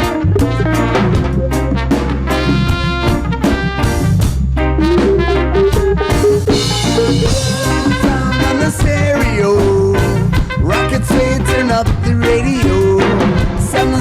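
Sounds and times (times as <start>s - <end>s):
live reggae band playing: 0.0s - 14.0s.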